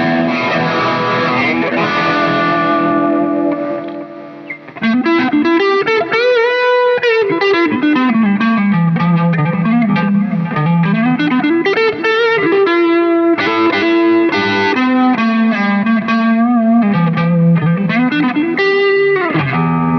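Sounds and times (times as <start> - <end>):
electric guitar lead line: 0.0 - 19.9.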